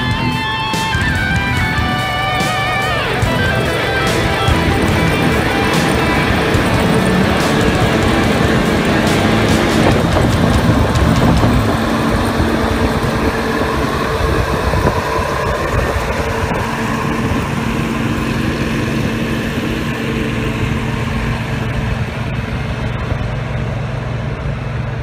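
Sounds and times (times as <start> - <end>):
track loader diesel engine running: 0.0 - 25.0.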